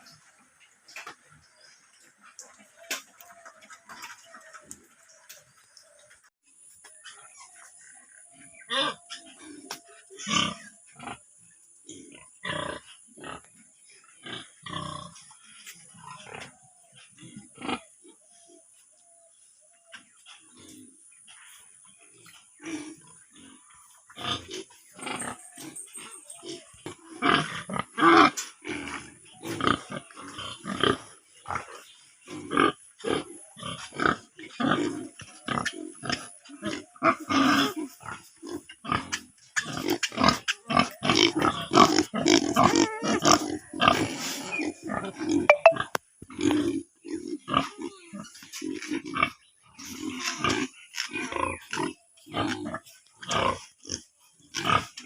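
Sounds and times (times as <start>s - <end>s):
pigs grunting: 7.0s - 18.6s, 19.9s - 55.0s.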